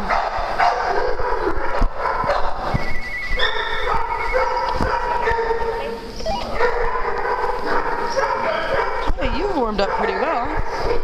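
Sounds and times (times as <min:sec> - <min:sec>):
dogs whining and yipping: 0:00.1 - 0:11.0.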